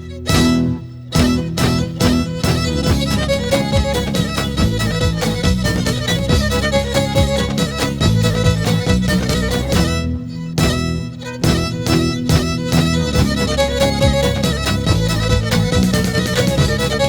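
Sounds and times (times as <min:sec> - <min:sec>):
bowed fiddle melody: 0:00.0 - 0:17.0
fast steady beat: 0:00.3 - 0:17.0.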